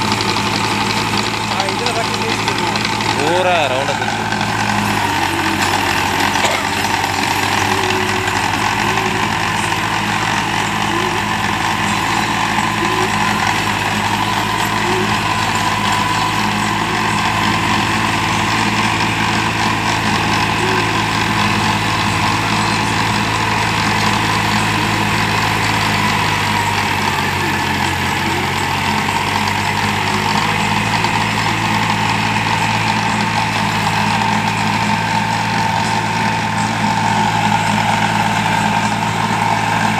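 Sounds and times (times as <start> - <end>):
rotavator churning soil: 0.0 - 39.9
steady high whine: 0.0 - 39.9
tractor diesel engine running: 0.0 - 39.9.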